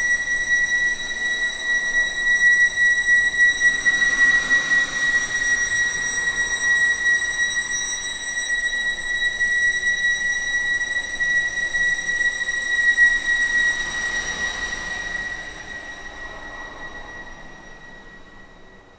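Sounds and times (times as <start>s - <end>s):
high-pitched whine: 0.0s - 18.9s.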